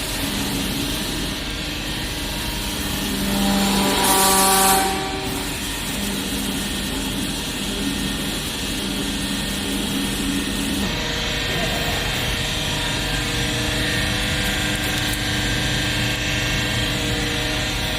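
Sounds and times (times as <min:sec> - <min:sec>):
baler motor and pump humming: 0:00.0 - 0:17.9.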